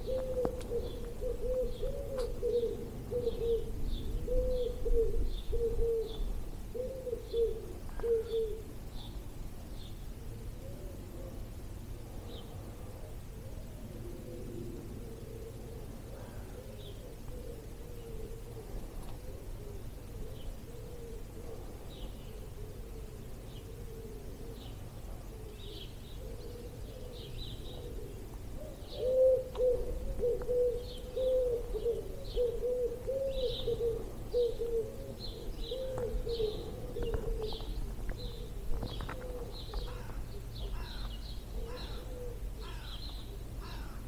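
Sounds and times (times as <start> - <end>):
pigeon cooing: 0.0 - 8.8, 12.6 - 44.0
songbirds chirping: 0.0 - 44.0.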